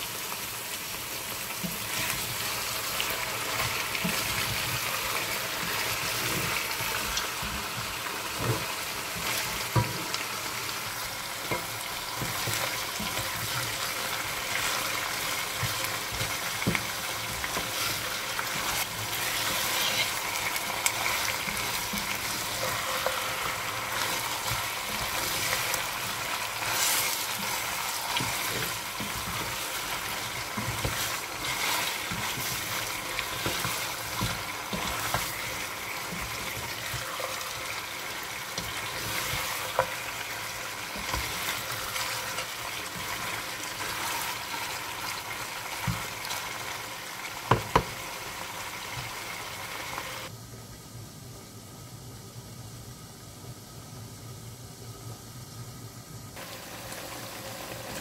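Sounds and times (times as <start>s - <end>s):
meat sizzling in oil: 0.0s - 50.3s, 56.3s - 58.0s.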